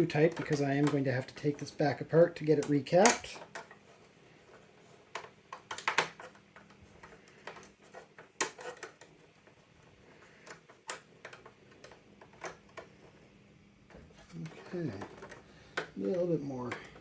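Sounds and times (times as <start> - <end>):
plastic parts clicking and knocking: 0.0 - 1.8, 2.5 - 17.0.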